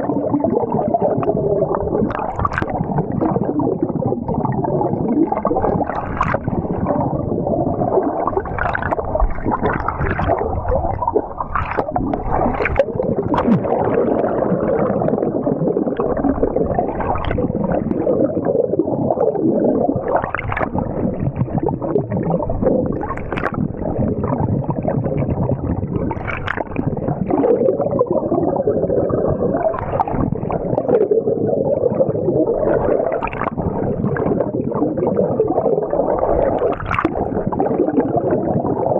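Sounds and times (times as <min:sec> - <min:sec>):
water splashes: 0:00.0 - 0:28.3, 0:29.3 - 0:31.2, 0:32.5 - 0:38.9
water sloshing and gurgling: 0:00.0 - 0:38.9.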